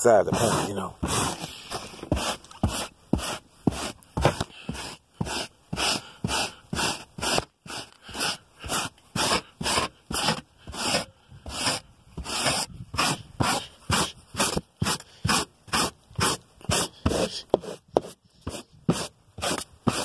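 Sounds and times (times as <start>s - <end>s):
brush scrubbing carpet: 0.0s - 20.0s.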